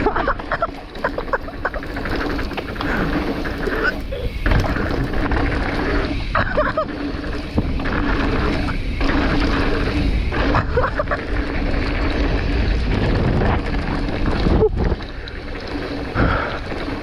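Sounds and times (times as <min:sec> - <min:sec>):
bike tyre noise: 0:00.0 - 0:17.0
wind rushing over microphone: 0:01.0 - 0:17.0.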